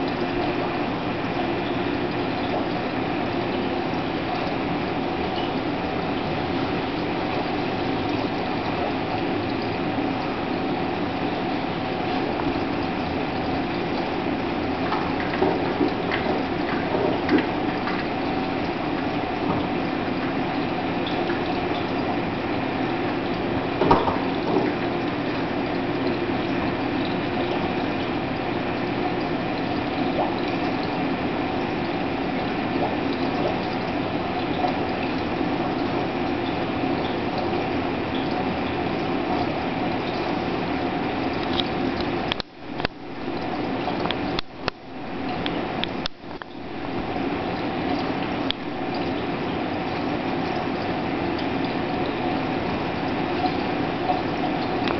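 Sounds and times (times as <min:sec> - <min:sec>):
aquarium pump hum: 0:00.0 - 0:54.9
trickling water: 0:00.0 - 0:54.9.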